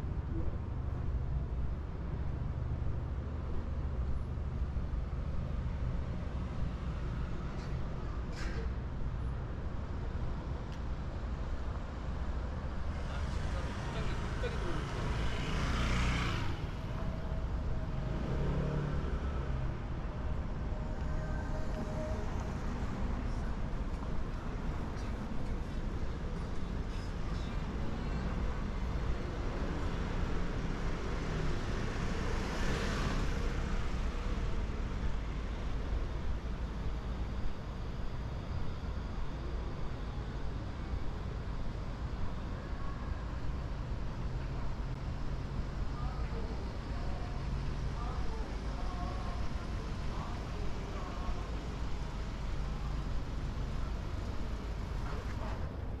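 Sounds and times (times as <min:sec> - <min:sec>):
city street traffic: 0:00.0 - 0:56.0
faint voices of passers-by: 0:00.0 - 0:56.0.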